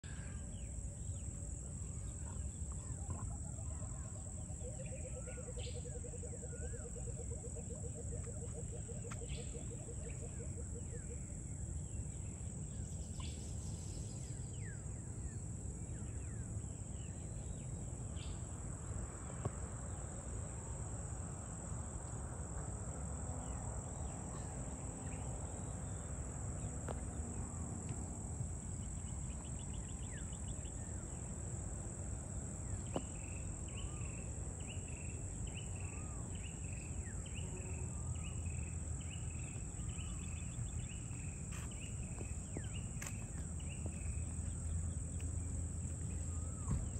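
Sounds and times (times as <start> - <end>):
high-pitched insect chorus: 0.1 - 46.9.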